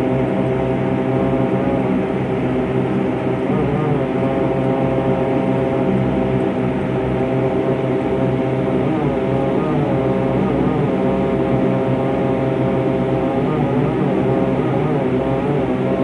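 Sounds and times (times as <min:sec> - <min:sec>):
propeller airplane engine drone: 0:00.0 - 0:16.0.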